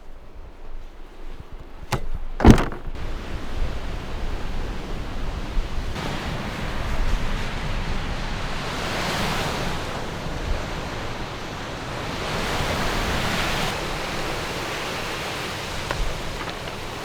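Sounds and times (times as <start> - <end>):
waves washing onto shore: 2.4 - 17.0.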